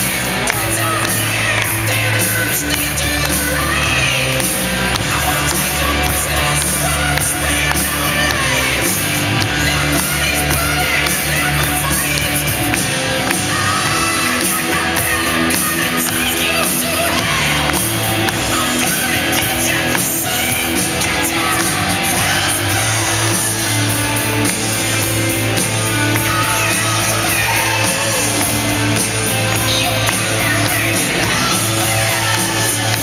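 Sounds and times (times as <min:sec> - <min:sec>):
loud music with singing: 0:00.0 - 0:33.0.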